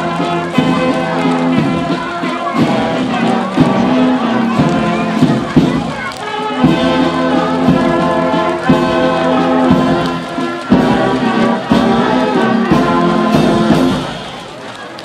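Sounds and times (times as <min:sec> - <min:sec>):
brass band playing: 0:00.0 - 0:14.5.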